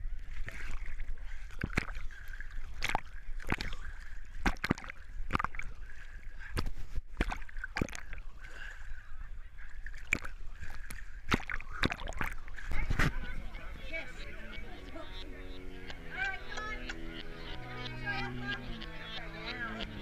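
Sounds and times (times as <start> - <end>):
muddy water sloshing: 0.0 - 20.0.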